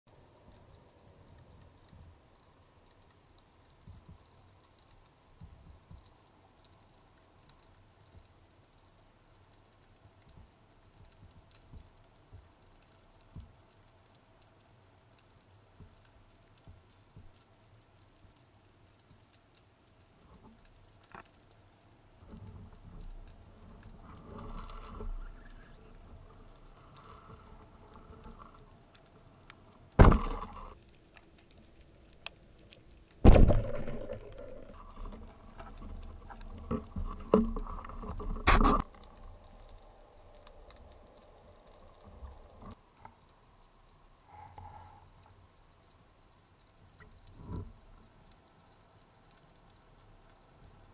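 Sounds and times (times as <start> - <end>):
underwater crackle of small clicks: 0.1 - 50.9
rustling and bumping underwater: 0.4 - 14.4, 15.0 - 50.9.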